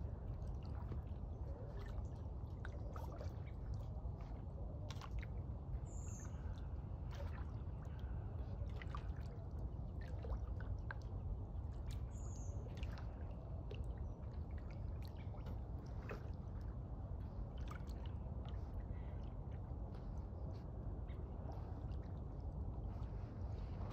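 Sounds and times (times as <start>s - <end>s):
low steady rumble: 0.0s - 23.9s
water dripping and trickling: 0.0s - 23.9s.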